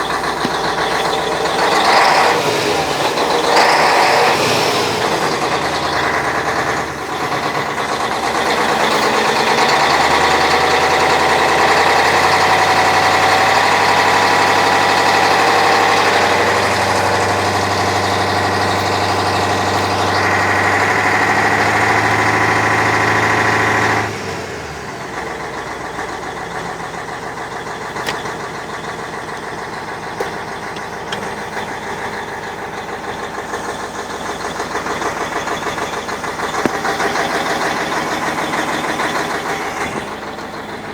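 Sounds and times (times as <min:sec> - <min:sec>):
diesel engine revving and idling: 0:00.0 - 0:40.9
engine knock: 0:00.0 - 0:40.9.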